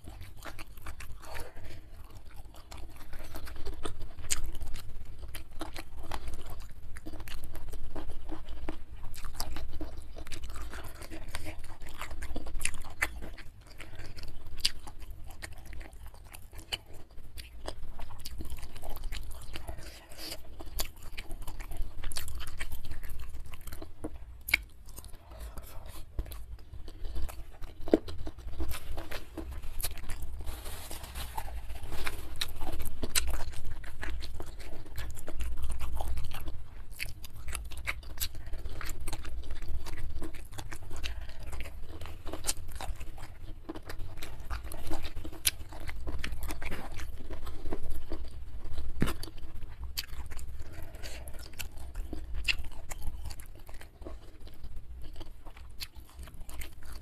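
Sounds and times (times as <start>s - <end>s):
chewing crunchy food: 0.0s - 57.0s.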